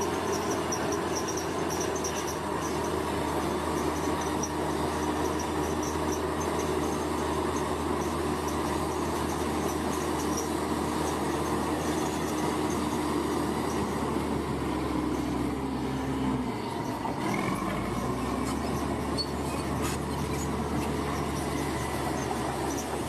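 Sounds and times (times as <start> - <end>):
construction machinery engine drone: 0.0 - 23.0.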